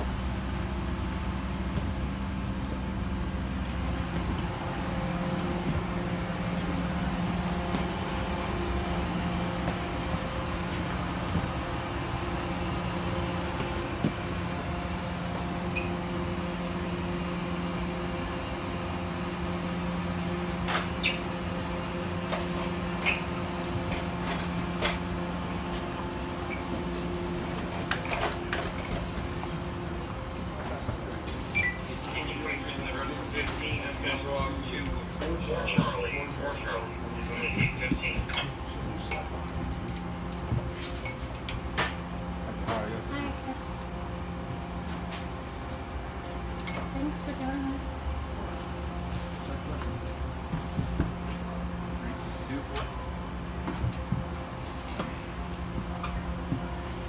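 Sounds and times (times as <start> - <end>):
cabin air conditioning hum: 0.0 - 57.0.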